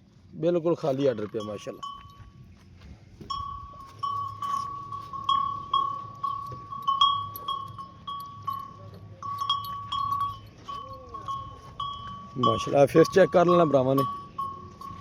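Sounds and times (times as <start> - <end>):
metal bell ringing: 1.3 - 2.4, 3.3 - 15.0.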